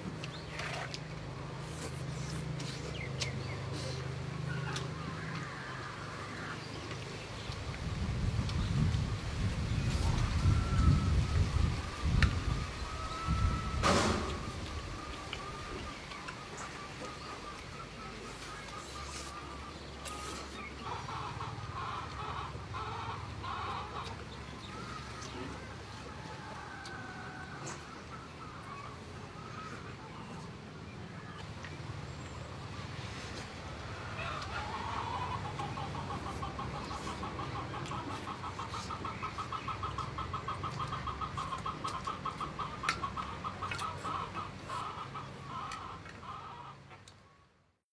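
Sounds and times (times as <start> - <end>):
chickens clucking: 0.0 - 47.3.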